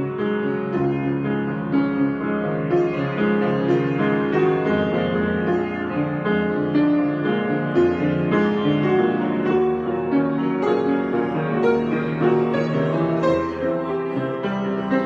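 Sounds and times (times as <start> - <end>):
piano improvisation: 0.0 - 15.0.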